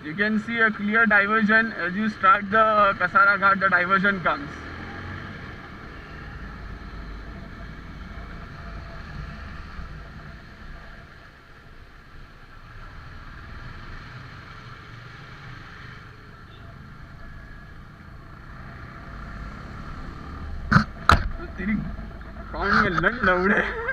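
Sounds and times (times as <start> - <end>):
road and wind noise: 0.0 - 23.9
motorcycle engine rumble: 0.7 - 23.9.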